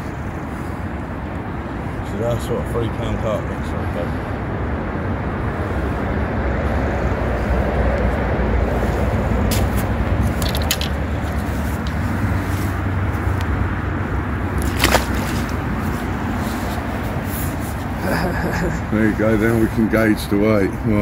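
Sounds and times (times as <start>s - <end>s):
heavy road traffic: 0.0s - 21.0s.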